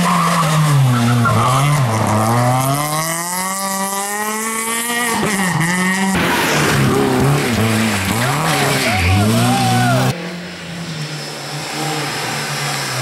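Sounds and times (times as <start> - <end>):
car engine accelerating hard: 0.3 - 13.0.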